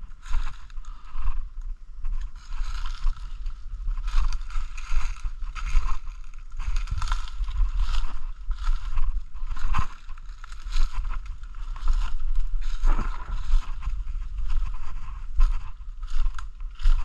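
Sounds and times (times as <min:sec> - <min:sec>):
footsteps crunching dry leaves: 0:00.0 - 0:01.4, 0:02.1 - 0:17.0
low camera rumble: 0:00.0 - 0:17.0.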